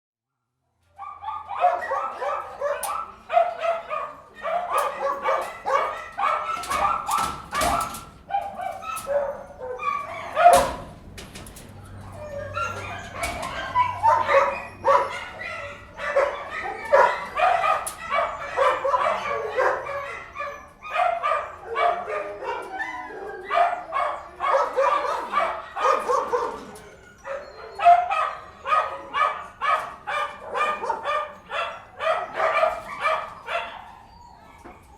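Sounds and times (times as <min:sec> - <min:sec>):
dogs barking yipping and whining: 0:00.8 - 0:34.9.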